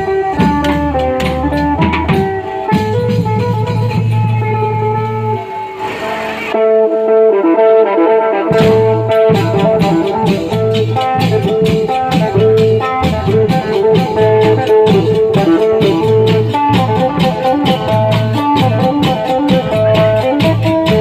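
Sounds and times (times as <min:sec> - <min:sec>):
deep drum beats: 0:00.0 - 0:05.4, 0:08.6 - 0:21.0
held melody line: 0:00.0 - 0:21.0.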